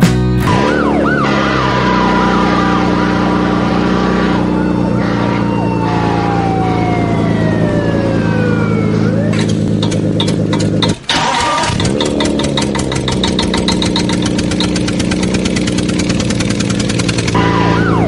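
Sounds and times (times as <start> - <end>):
emergency vehicle siren: 0.5 - 11.9, 12.7 - 18.0.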